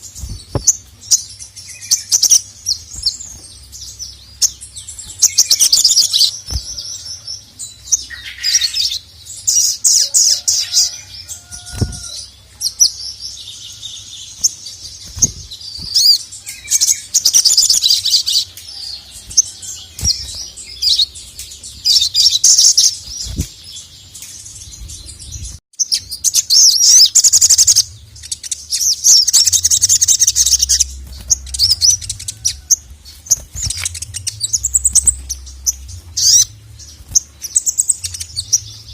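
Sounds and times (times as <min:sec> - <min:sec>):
sunbird trilling chirps: 0:00.0 - 0:38.9.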